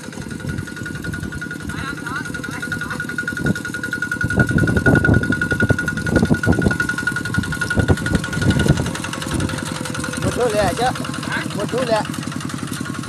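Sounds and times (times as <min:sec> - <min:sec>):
walking tractor engine running: 0:00.0 - 0:13.0.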